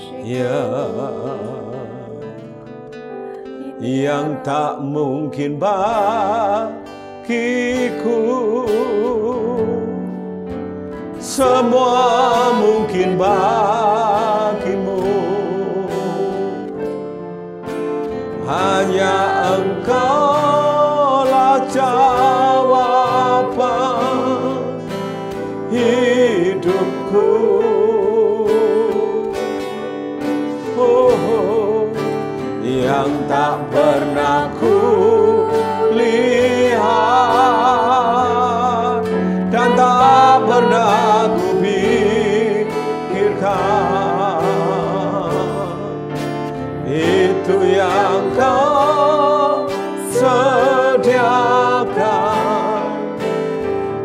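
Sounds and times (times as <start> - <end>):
man and woman singing: 0.0 - 2.6, 3.3 - 10.1, 11.2 - 16.6, 18.4 - 29.7, 30.6 - 46.0, 46.8 - 53.5
guitar accompaniment: 0.0 - 54.0.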